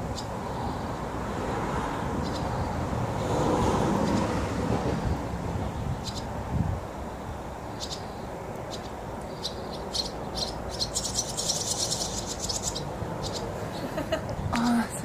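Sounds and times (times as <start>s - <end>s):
fledgling birds chirping: 0.0s - 1.2s, 1.9s - 3.0s, 3.8s - 15.0s.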